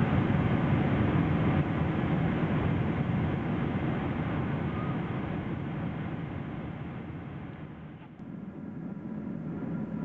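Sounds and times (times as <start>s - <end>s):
airplane cabin roar: 0.0s - 10.0s.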